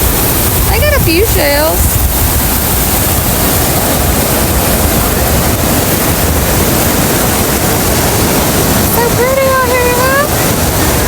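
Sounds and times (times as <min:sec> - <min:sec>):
ocean surf washing in: 0:00.0 - 0:11.0
wind buffeting microphone: 0:00.0 - 0:11.0.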